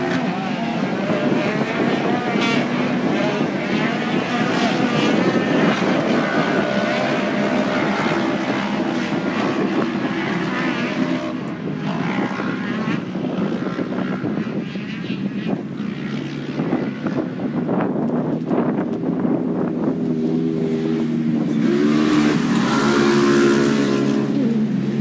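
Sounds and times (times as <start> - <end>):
drone propellers humming: 0.0 - 25.0
off-road race vehicle engines: 0.0 - 25.0.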